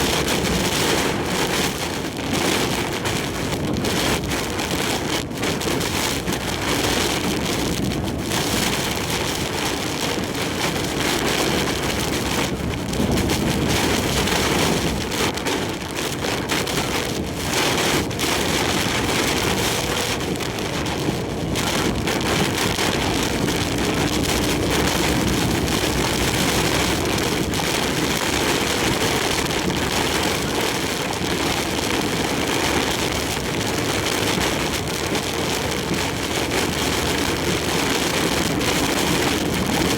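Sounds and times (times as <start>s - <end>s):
heavy rain on a truck: 0.0s - 39.9s
road noise: 0.0s - 39.9s
strong wind: 0.0s - 39.9s.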